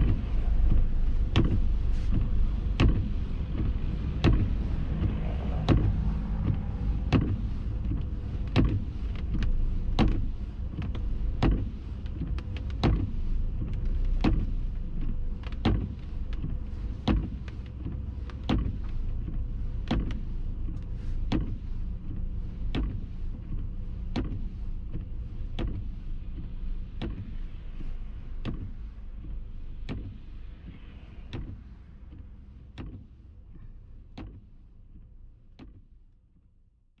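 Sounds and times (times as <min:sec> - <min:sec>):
windshield wipers knocking: 0:00.0 - 0:33.5
car engine and road rumble: 0:00.0 - 0:36.5.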